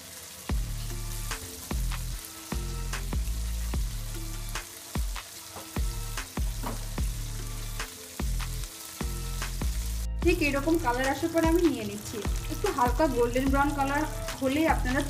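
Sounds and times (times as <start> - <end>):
chicken deep-frying in oil: 0.0 - 15.0
background music with beat: 0.5 - 15.0.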